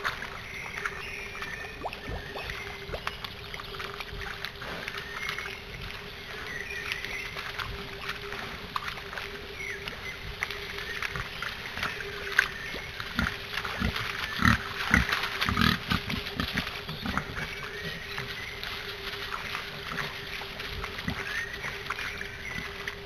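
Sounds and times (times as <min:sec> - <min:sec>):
splashing in muddy water: 0:00.0 - 0:23.0.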